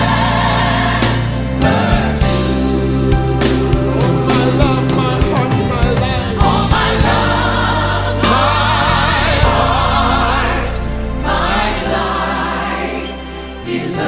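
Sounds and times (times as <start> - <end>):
choir singing gospel: 0.0 - 14.0
steady bass: 0.0 - 14.0.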